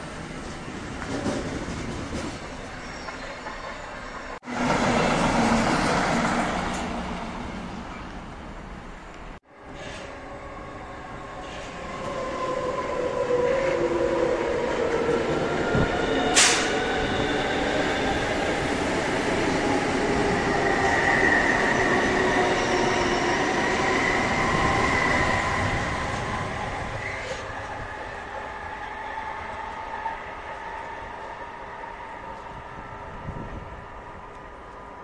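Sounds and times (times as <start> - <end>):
train wheels rolling on rail: 0.0 - 35.0.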